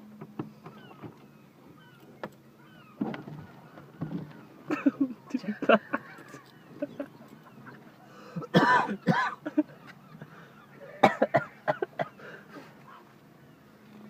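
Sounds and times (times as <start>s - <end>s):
gulls calling: 0.0s - 14.0s.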